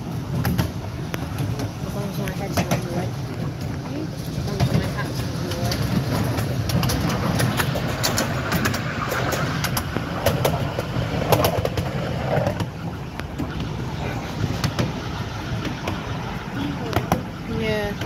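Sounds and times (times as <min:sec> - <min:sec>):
rail joint clicks: 0:00.0 - 0:18.0
train wheels rumbling: 0:00.0 - 0:18.0.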